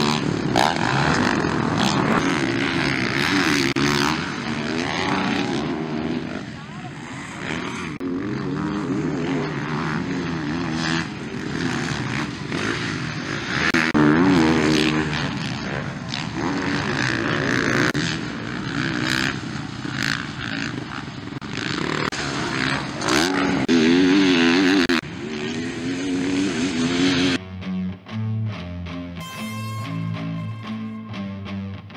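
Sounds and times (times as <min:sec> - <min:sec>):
motorcycles revving past: 0:00.0 - 0:27.4.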